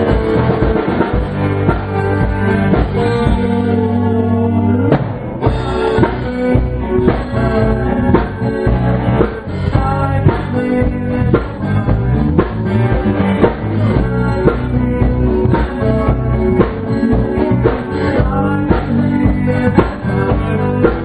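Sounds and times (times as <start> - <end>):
steady drum beat: 0.0 - 4.0, 4.8 - 21.0
rock band playing live: 0.0 - 21.0.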